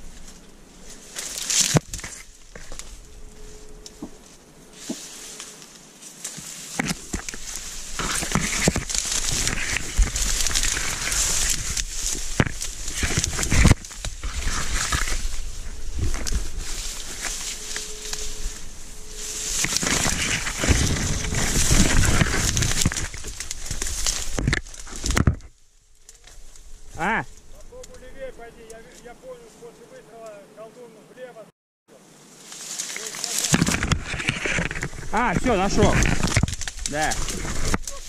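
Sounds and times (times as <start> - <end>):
dry reeds rustling and snapping: 0.0 - 29.2, 32.3 - 38.0
stems scraping against clothing: 0.0 - 30.4, 32.3 - 38.0.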